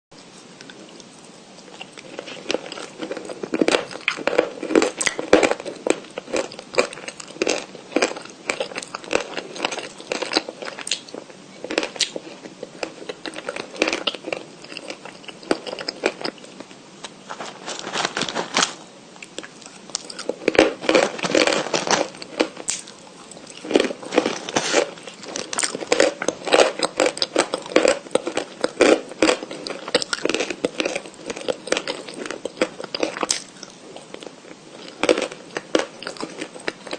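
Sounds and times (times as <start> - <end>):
crunchy chewing of chalk: 0.2 - 36.9.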